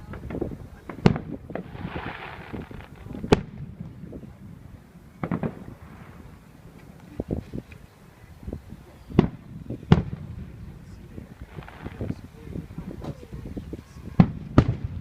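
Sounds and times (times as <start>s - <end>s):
fireworks bangs: 0.0s - 7.6s, 9.1s - 15.0s
fireworks crackling fizz: 0.0s - 15.0s.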